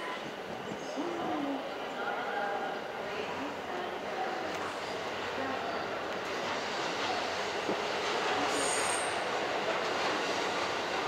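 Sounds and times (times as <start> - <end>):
train running on tracks: 0.0 - 11.0.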